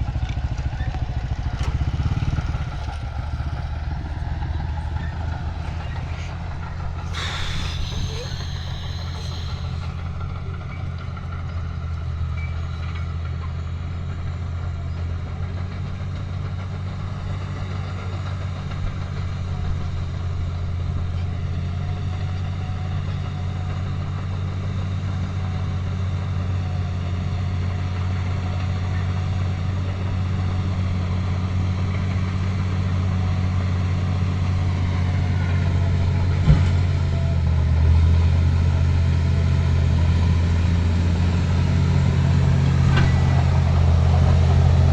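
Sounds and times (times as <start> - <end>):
heavy vehicle engine running: 0.0 - 44.9.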